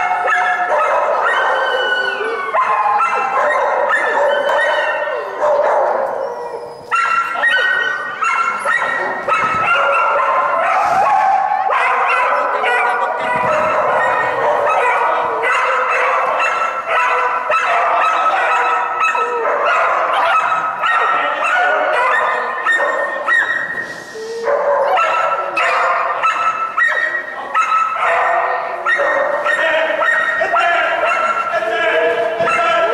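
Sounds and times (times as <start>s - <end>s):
dog yelping and barking: 0.0s - 32.9s.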